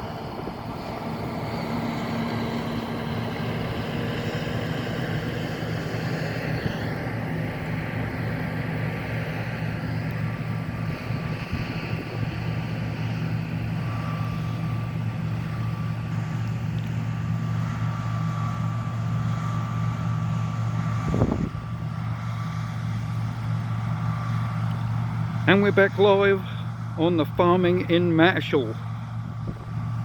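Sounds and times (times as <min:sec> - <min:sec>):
combine harvester engine drone: 0:00.0 - 0:30.0
thin steady whine: 0:00.0 - 0:30.0.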